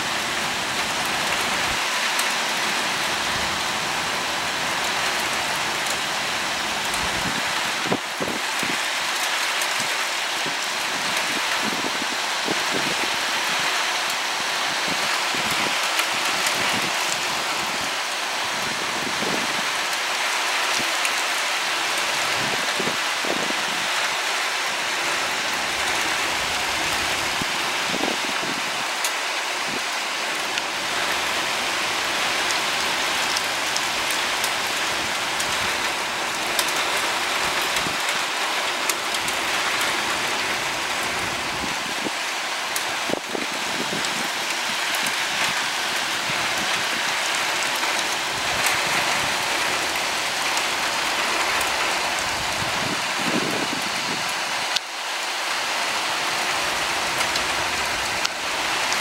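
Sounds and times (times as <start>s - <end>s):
rain hissing on wet street: 0.0s - 59.0s.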